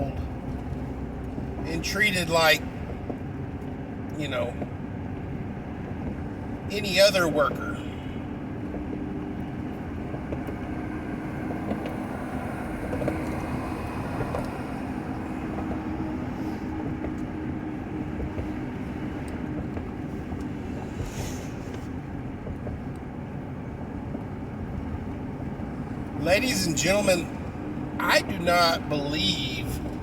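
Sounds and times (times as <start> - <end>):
car road and wind noise: 0.0 - 30.0
low cabin hum: 0.0 - 30.0.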